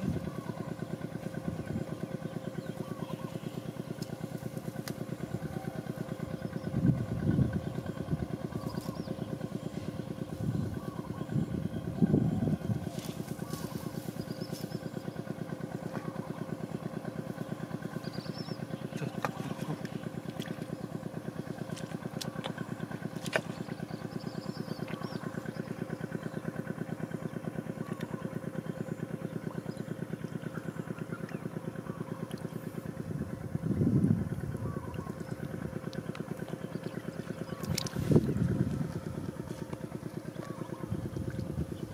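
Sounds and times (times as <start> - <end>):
small engine chugging: 0.0 - 41.9.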